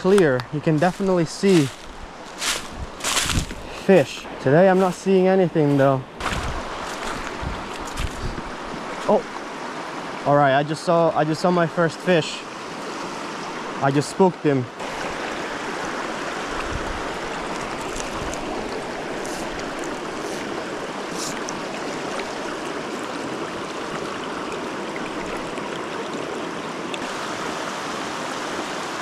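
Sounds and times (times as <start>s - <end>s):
creek flowing over rocks: 0.0s - 29.0s.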